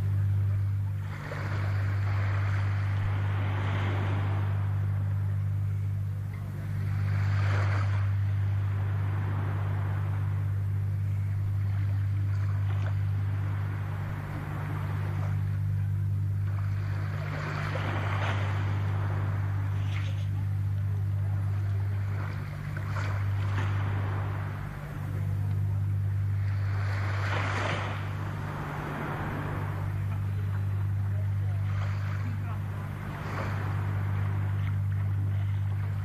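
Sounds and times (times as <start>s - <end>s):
sea waves washing in: 0.0s - 36.0s
steady low hum: 0.0s - 36.0s.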